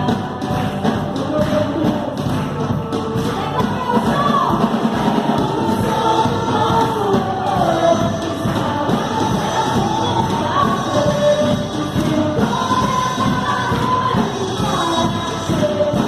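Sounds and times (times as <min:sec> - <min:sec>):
backing voices singing: 0:00.0 - 0:16.0
full band playing: 0:00.0 - 0:16.0
woman singing: 0:00.0 - 0:16.0.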